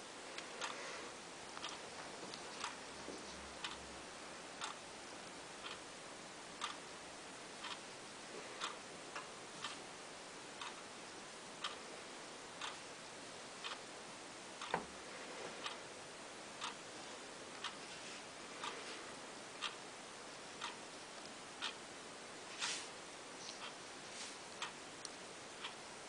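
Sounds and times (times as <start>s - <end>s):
faint steady hiss: 0.0s - 26.0s
light regular ticking: 0.2s - 22.0s, 23.3s - 26.0s.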